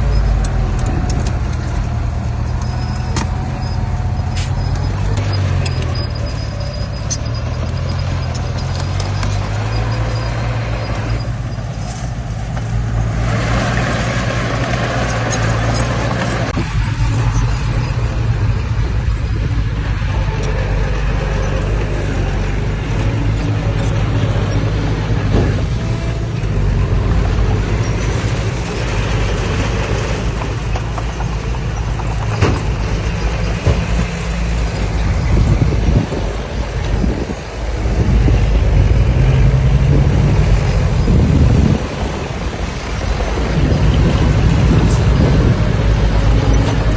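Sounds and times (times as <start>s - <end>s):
heavy machinery diesel engine running: 0.0s - 46.9s.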